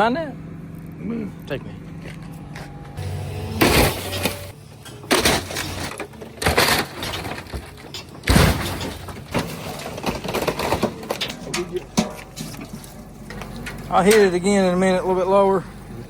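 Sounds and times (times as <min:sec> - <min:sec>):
low machine rumble: 0:00.0 - 0:16.0.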